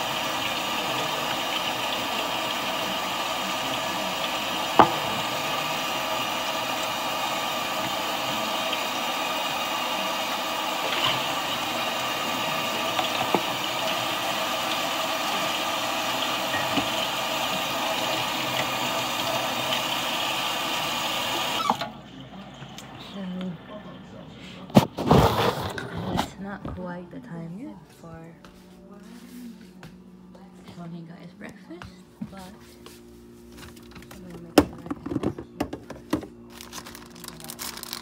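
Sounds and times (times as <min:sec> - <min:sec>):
mechanical hum with held tones: 0:00.0 - 0:25.0, 0:25.6 - 0:38.0.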